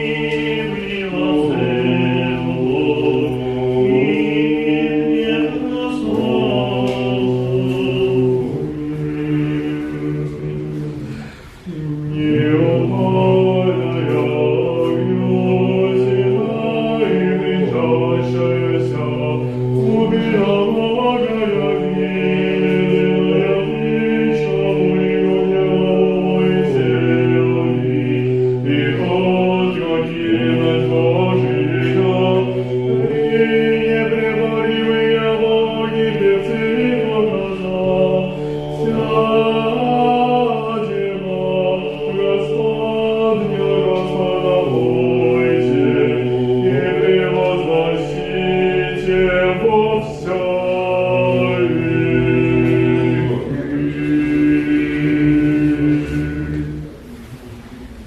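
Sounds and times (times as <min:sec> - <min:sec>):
choir singing a cappella chant: 0:00.0 - 0:58.0.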